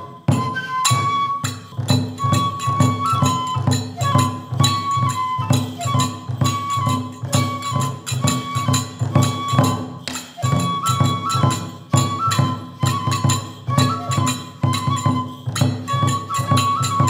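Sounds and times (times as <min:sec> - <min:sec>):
bamboo flute melody: 0:00.0 - 0:17.0
hand cymbals clashing: 0:00.0 - 0:17.0
steady drum beats: 0:00.0 - 0:17.0.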